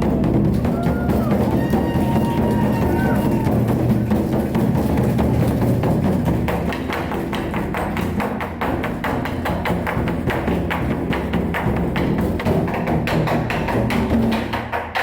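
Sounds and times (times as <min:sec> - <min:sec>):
sharp clicking percussion: 0:00.0 - 0:15.0.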